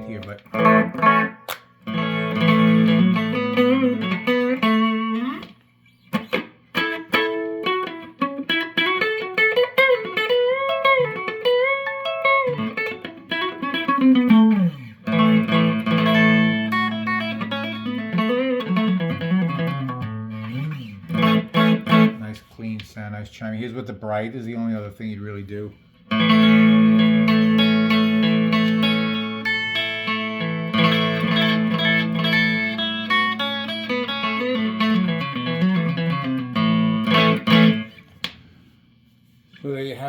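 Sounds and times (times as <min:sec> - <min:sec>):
clean electric guitar: 0:00.0 - 0:22.8, 0:25.8 - 0:38.8.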